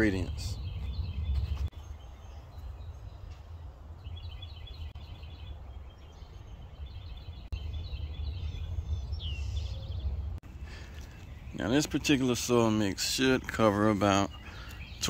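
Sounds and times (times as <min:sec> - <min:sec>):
steady low rumble: 0:00.0 - 0:12.5
birds chirping in trills: 0:00.0 - 0:15.0.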